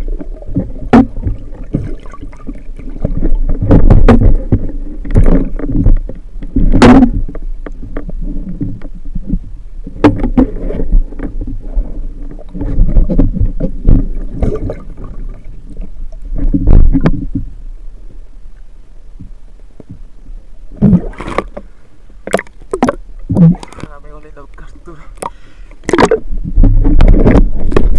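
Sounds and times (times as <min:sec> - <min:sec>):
underwater water movement rumbling: 0:00.0 - 0:27.9.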